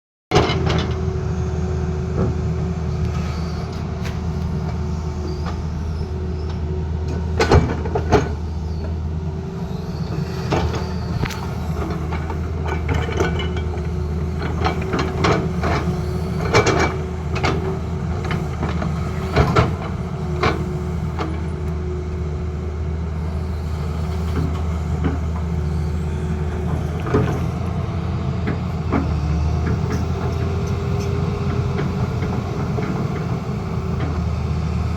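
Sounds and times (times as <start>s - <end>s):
excavator diesel engine running: 0.3s - 34.9s
steady machine whine: 0.5s - 34.9s.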